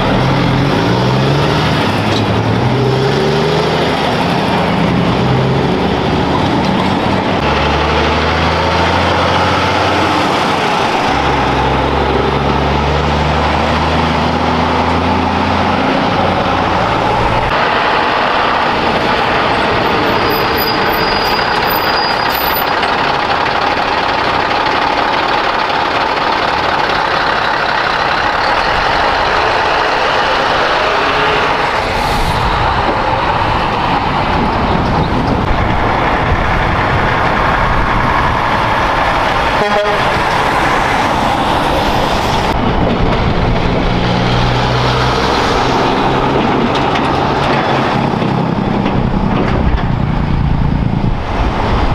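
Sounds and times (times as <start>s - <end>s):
heavy truck diesel engines: 0.0s - 51.9s.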